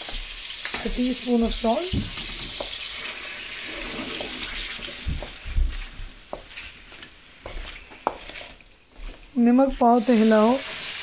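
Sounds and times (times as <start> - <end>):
chicken sizzling in oil: 0.0 - 8.9, 9.7 - 11.0.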